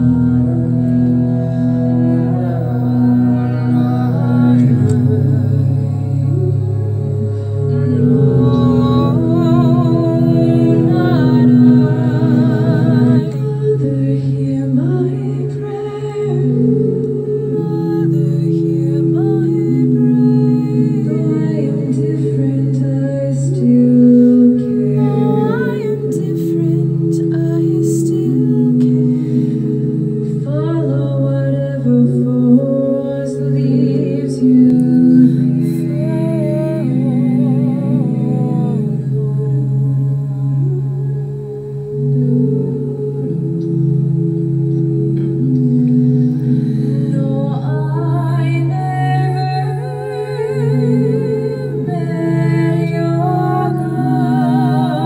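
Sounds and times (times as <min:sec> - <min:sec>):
ambient trance drone chords: 0:00.0 - 0:55.0
person singing: 0:00.0 - 0:55.0.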